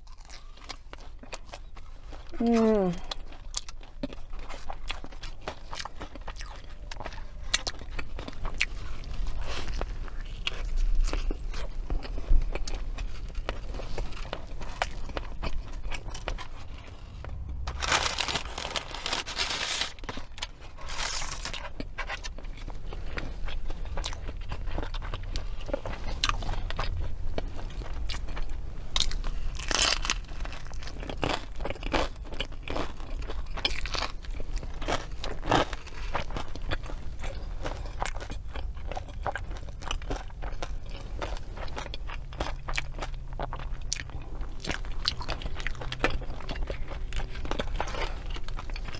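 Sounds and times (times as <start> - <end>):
crunchy chewing: 0.0 - 48.9.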